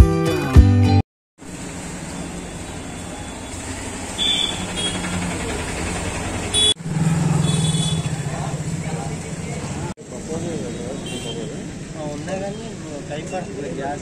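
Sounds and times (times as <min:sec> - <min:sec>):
passing vehicles hum: 0:01.4 - 0:14.0.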